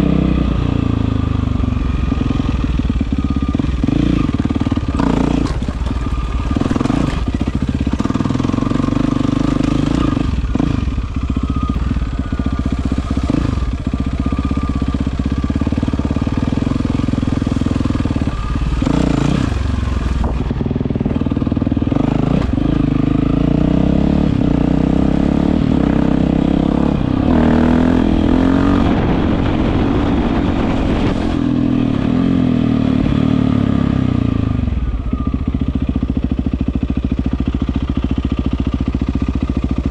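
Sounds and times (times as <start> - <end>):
dirt bike engine revving: 2.0 - 35.2.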